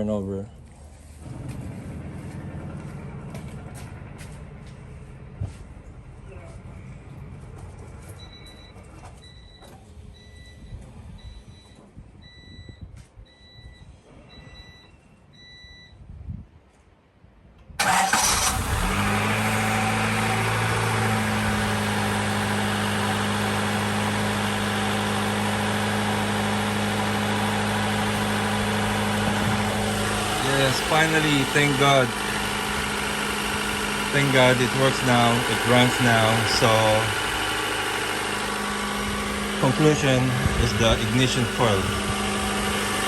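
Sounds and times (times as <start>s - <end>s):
car engine starting and idling: 0.6s - 11.5s, 17.8s - 43.0s.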